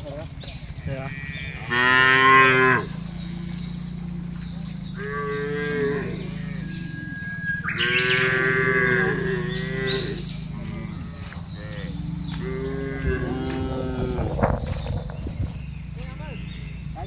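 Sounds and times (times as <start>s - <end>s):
steady low hum: 0.0s - 17.0s
cattle mooing: 0.7s - 15.4s, 16.0s - 17.0s.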